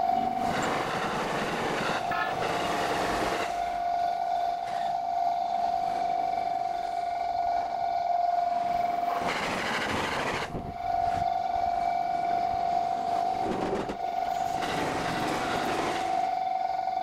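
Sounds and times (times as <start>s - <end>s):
trains rushing past: 0.0s - 4.4s, 5.4s - 17.0s
level crossing warning tone: 0.0s - 17.0s.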